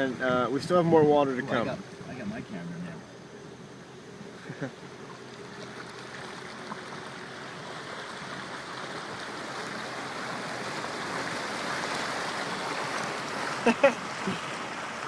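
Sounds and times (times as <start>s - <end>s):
flood water rushing and sloshing: 0.0s - 15.0s.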